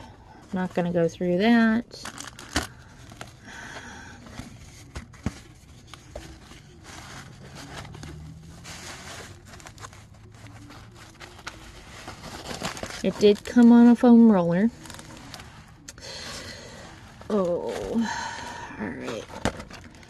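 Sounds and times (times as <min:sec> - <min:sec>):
paper and plastic wrapping rustling: 0:00.0 - 0:20.0.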